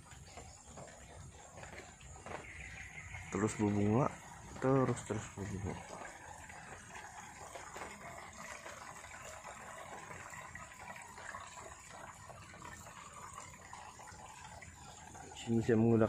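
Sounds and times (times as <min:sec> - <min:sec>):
water trickling through channels: 0:00.0 - 0:16.0.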